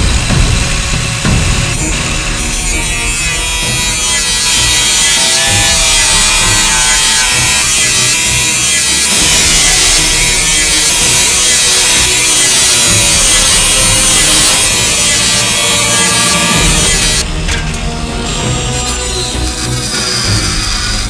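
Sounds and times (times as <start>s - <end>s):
angle grinder cutting steel: 0.0s - 21.0s
music playing: 0.0s - 21.0s.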